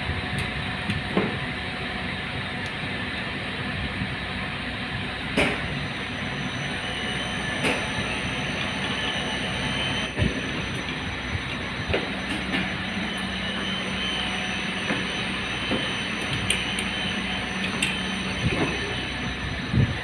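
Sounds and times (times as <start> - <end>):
elevator machinery droning: 0.0 - 20.0
low hum: 0.0 - 20.0.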